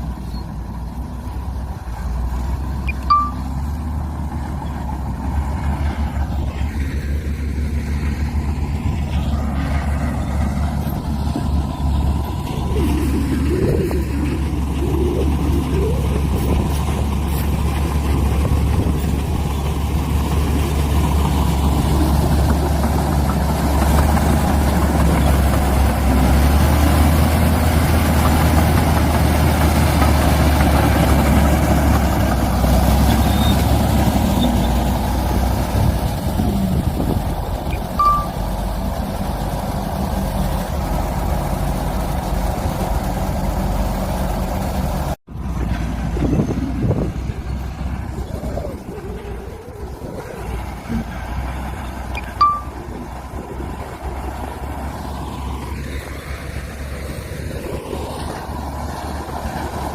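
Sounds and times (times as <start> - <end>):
bulldozer engine under load: 0.0 - 59.9
dump truck engine: 0.0 - 59.9.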